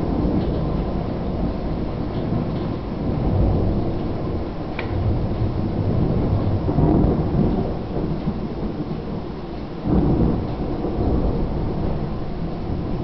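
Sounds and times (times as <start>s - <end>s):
rain hiss: 0.0s - 13.0s
thunder rumbling: 0.0s - 13.0s.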